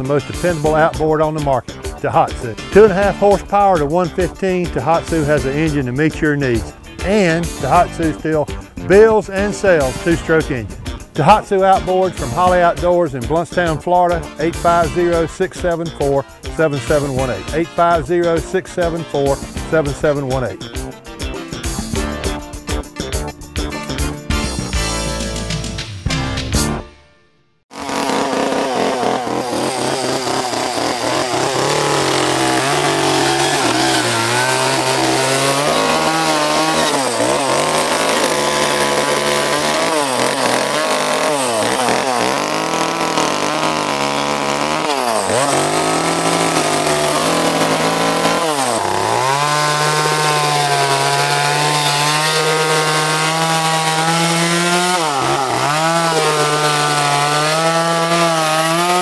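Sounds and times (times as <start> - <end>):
chainsaw cutting wood: 0.0 - 20.9, 27.7 - 59.0.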